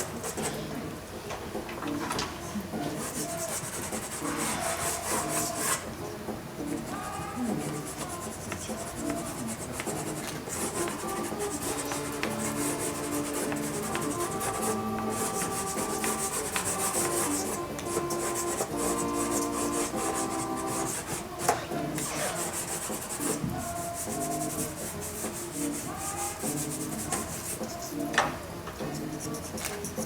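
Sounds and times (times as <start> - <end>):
quiet music with held notes: 0.0 - 30.0
pastel scraping on paper: 2.8 - 5.9, 6.7 - 28.0.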